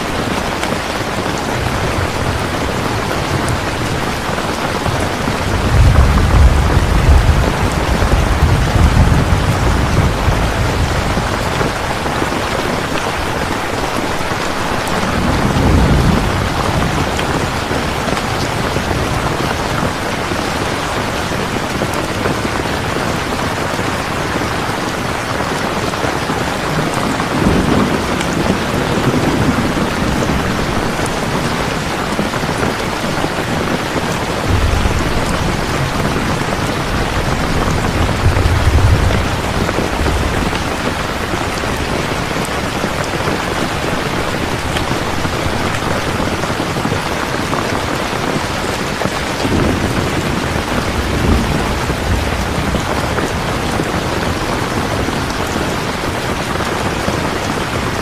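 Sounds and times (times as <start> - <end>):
heavy rain: 0.0 - 58.0
low thunder rumbling: 0.1 - 58.0.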